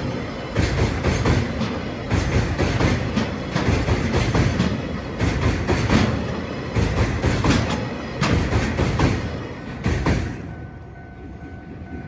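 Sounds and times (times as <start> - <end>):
train rumble: 0.0 - 12.0
train wheels clacking on rails: 0.0 - 12.0.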